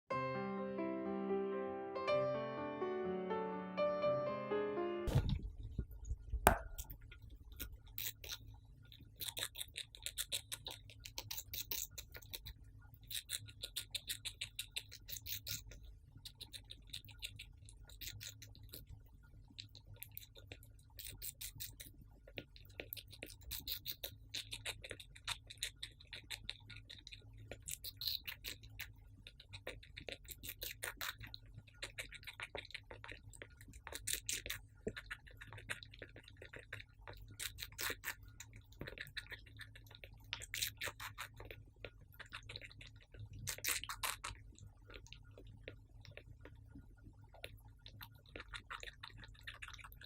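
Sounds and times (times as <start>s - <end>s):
hamster chewing: 5.2s - 50.0s.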